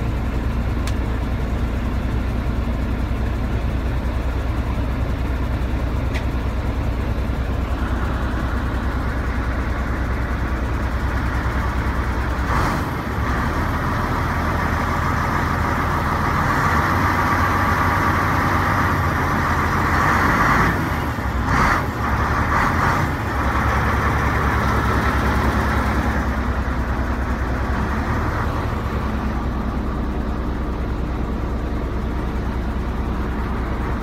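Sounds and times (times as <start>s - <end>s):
diesel truck engine idling: 0.0s - 34.0s
engine clatter: 0.0s - 34.0s.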